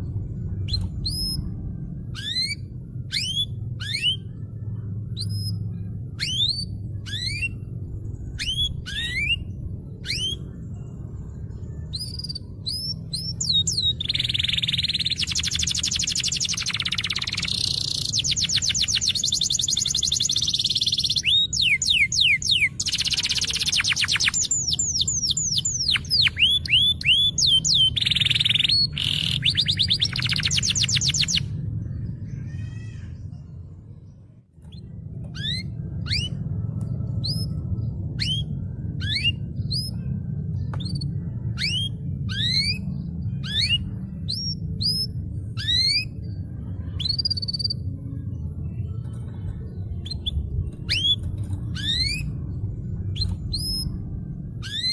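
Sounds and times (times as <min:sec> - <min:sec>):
steady low hum: 0:00.0 - 0:54.9
canary singing trills: 0:00.4 - 0:54.9.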